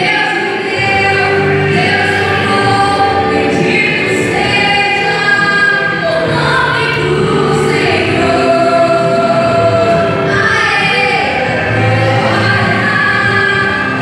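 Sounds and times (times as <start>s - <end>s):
musical accompaniment: 0.0s - 14.0s
woman singing gospel: 0.0s - 14.0s.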